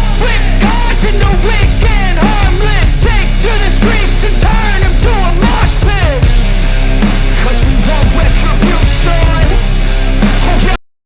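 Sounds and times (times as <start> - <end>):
music with strong beat: 0.0 - 10.8.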